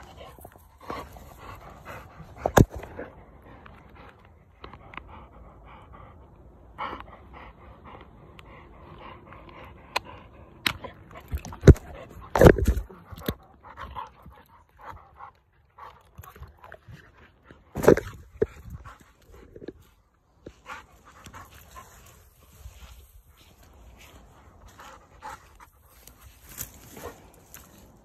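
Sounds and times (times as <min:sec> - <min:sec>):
puppy panting and snuffling: 0:00.0 - 0:28.0.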